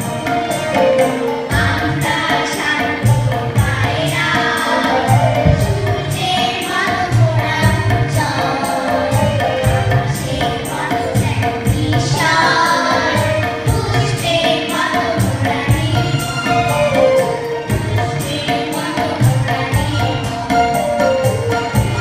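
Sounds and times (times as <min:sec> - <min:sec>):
children singing together: 0:00.0 - 0:22.0
quick high percussion rhythm: 0:00.0 - 0:22.0
steady drum beat: 0:00.0 - 0:22.0.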